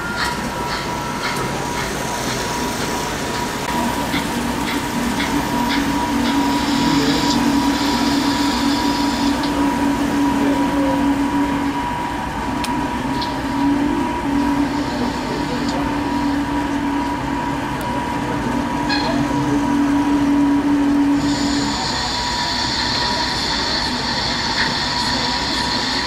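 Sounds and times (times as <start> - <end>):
exhibition hall background noise: 0.0 - 26.0
model train running: 0.0 - 26.0.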